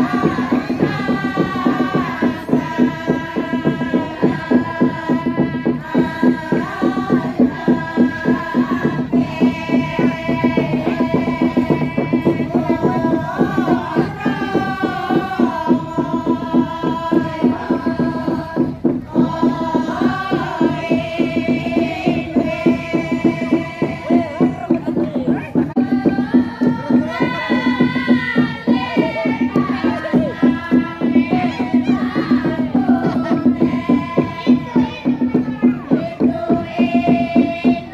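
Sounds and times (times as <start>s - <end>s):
steady pulsing beat: 0.0s - 37.9s
women singing a chant: 0.0s - 37.9s.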